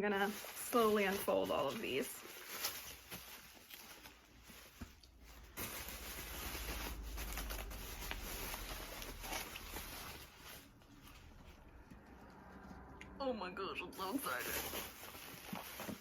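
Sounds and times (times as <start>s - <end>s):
bubble wrap rustling and crinkling: 0.0s - 12.0s, 14.0s - 16.0s.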